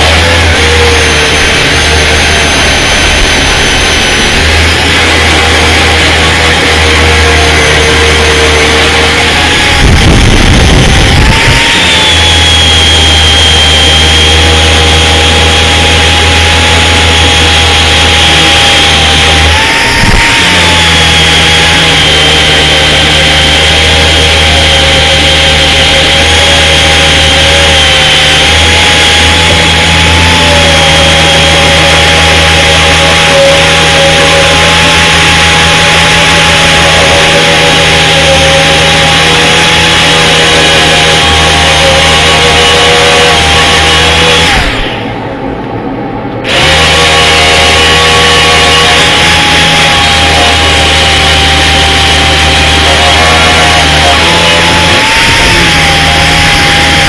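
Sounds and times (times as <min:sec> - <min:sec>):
grinder whining on metal: 0:00.0 - 0:57.0.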